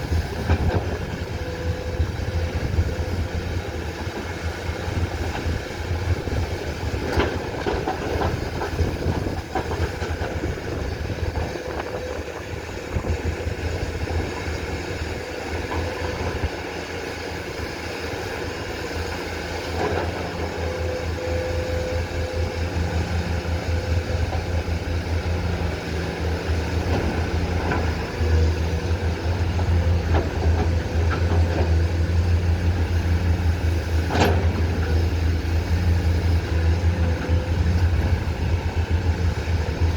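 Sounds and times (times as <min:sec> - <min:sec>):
excavator diesel engine throbbing: 0:00.0 - 0:39.9.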